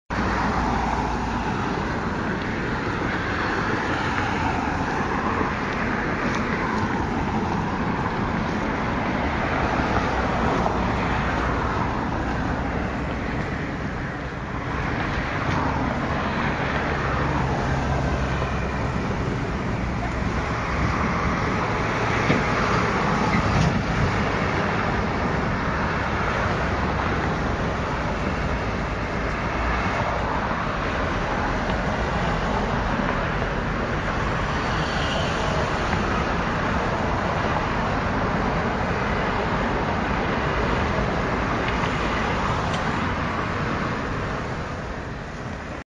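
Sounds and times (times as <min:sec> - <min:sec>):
cars passing on street: 0:00.1 - 0:45.8.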